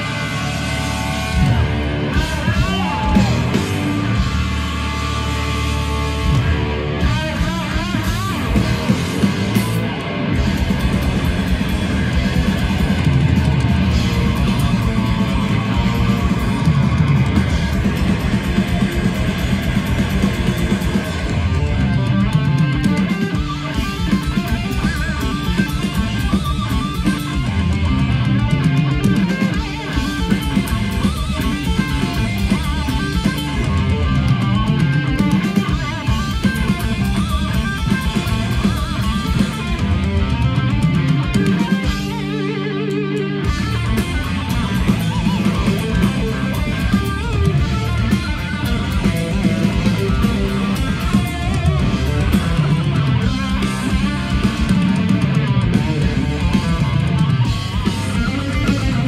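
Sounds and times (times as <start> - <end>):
heavy metal band playing: 0.0 - 59.0.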